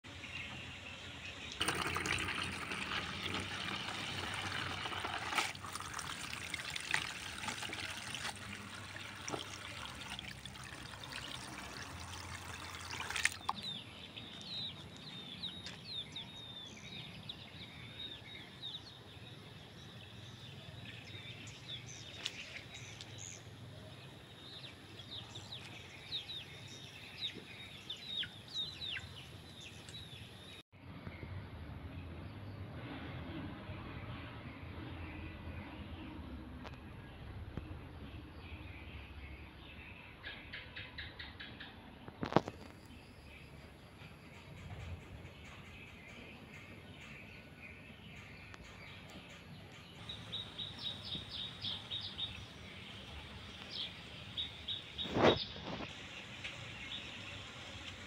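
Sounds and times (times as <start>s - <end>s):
birds chirping: 0.0s - 31.3s, 34.4s - 58.0s.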